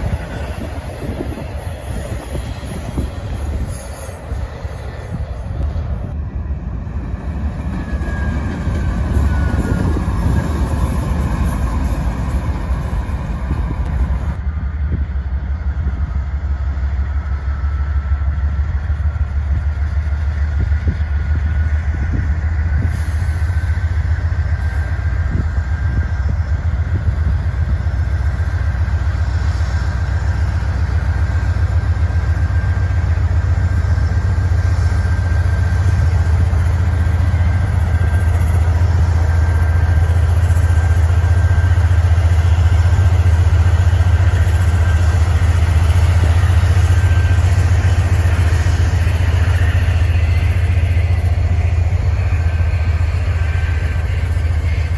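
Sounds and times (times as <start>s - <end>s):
diesel locomotive engine drone: 0.0s - 54.9s
thin whine: 0.0s - 54.9s.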